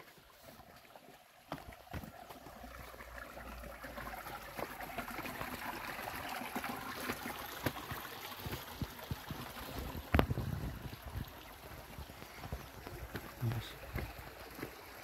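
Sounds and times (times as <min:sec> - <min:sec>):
stream rushing over stones: 0:00.0 - 0:15.0.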